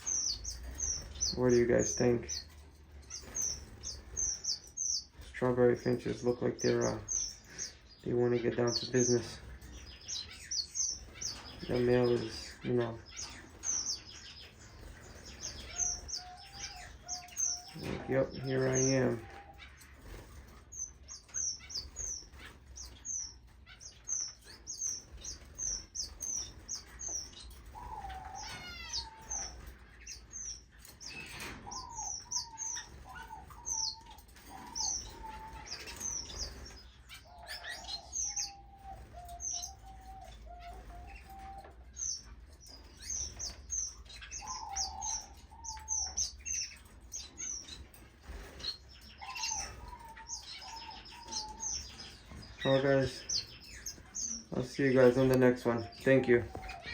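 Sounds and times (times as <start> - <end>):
finches chirping: 0.0 - 56.9.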